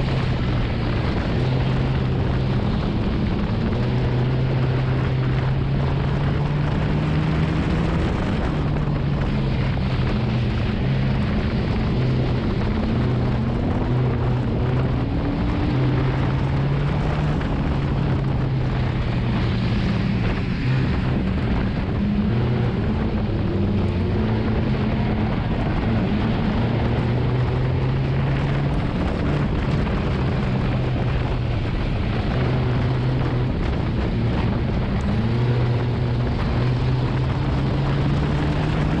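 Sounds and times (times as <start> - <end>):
race car engine revving: 0.0 - 39.0
road and wind noise: 0.0 - 39.0.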